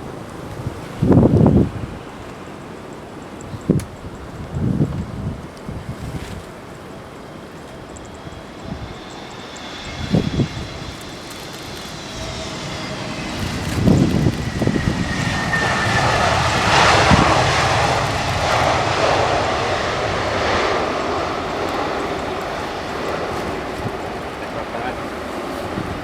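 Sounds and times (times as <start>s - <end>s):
jet airliner engine roar: 0.0s - 26.0s
wind buffeting microphone: 0.0s - 26.0s.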